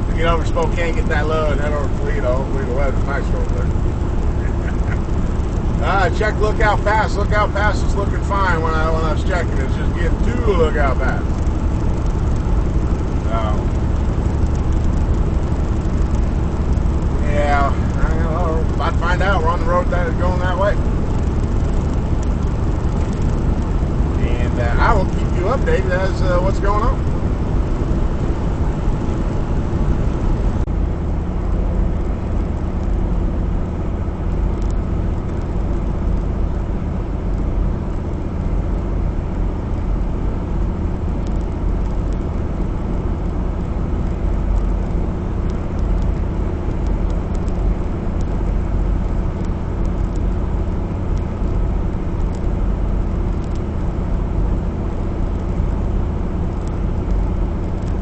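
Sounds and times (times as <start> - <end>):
road noise: 0.0 - 58.0
truck diesel engine drone: 0.0 - 58.0.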